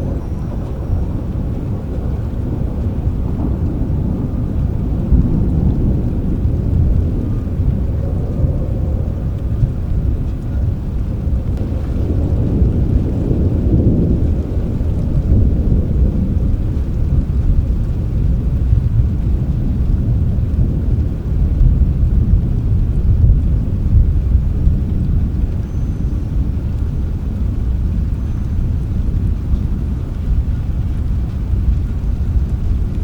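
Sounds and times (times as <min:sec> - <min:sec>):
rain: 0:00.0 - 0:33.0
rolling thunder: 0:00.0 - 0:33.0.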